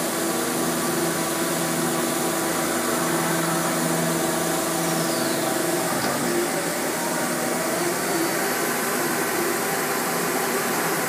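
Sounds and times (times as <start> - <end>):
machine mechanical hum: 0.0 - 11.0.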